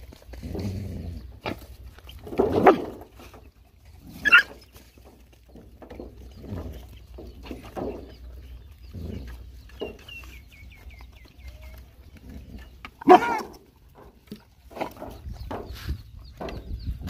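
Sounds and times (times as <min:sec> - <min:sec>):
dogs chewing and lapping: 0:00.0 - 0:15.3.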